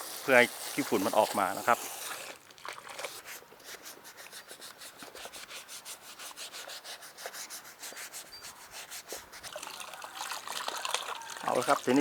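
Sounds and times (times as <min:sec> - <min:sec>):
rapid scrubbing of a filter: 0:00.0 - 0:12.0.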